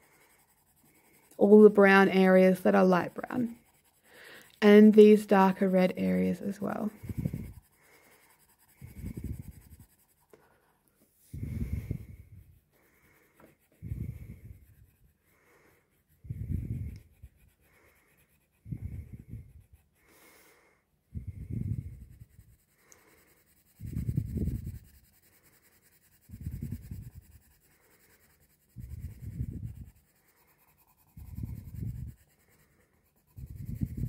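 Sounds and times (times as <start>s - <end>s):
coloured pencil scratching on paper: 0.0s - 34.0s.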